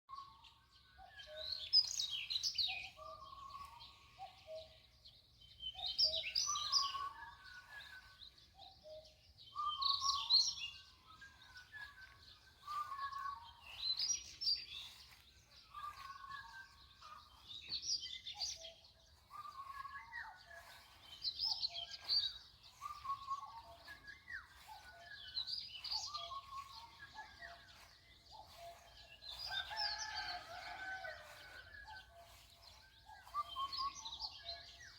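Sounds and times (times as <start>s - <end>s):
lower whistled bird notes: 0.1s - 15.0s, 15.6s - 31.0s, 31.7s - 34.9s
bird high busy song: 0.1s - 34.9s.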